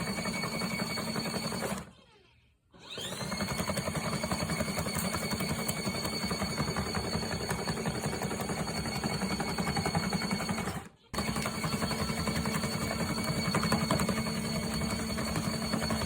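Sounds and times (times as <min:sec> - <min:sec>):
washing machine spinning: 0:00.0 - 0:01.9, 0:02.8 - 0:16.0.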